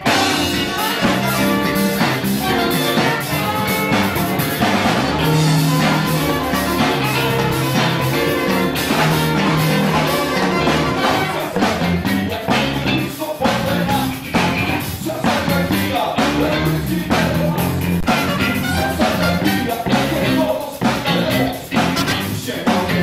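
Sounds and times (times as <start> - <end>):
drum kit beat: 0.0 - 23.0
electric bass: 0.0 - 23.0
electric guitar: 0.0 - 23.0.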